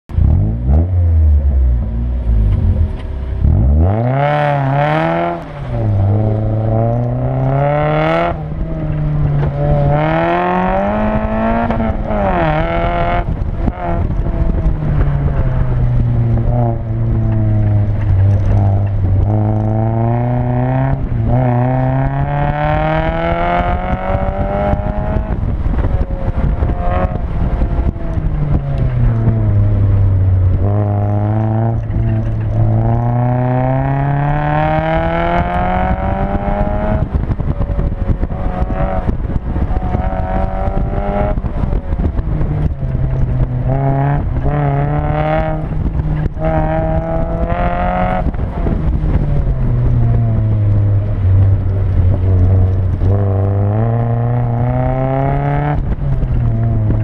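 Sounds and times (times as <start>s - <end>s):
car engine revving: 0.1s - 57.0s.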